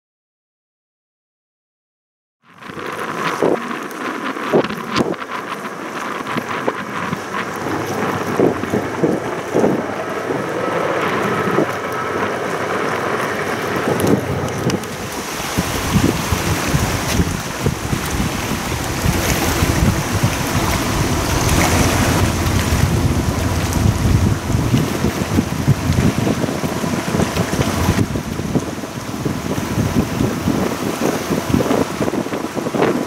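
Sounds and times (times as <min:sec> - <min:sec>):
wind buffeting microphone: 0:02.5 - 0:33.0.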